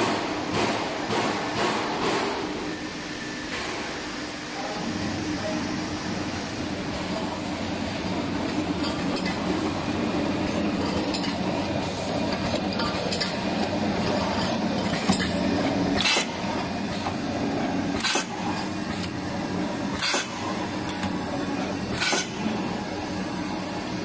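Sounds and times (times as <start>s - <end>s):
machine motor hum: 0.0s - 24.0s.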